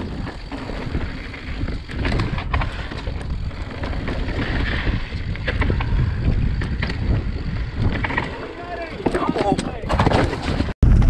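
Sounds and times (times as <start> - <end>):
bike clicks and rattles: 0.0 - 11.0
bike rolling over rock: 0.0 - 11.0
wind buffeting microphone: 0.0 - 11.0.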